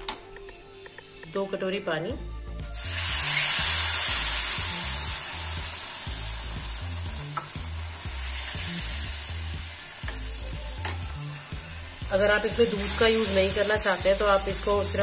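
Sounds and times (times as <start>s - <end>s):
water sizzling in hot pan: 2.7s - 15.0s.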